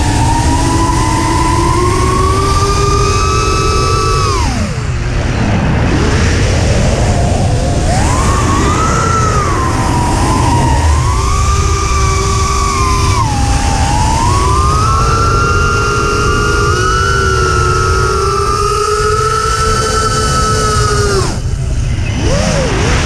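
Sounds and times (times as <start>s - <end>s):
quadcopter motors whining: 0.0s - 23.0s
wind rumble: 0.0s - 23.0s.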